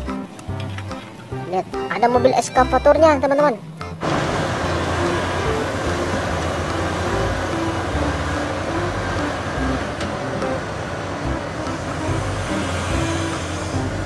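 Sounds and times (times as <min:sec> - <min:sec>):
excavator diesel engine and hydraulics: 0:00.0 - 0:14.0.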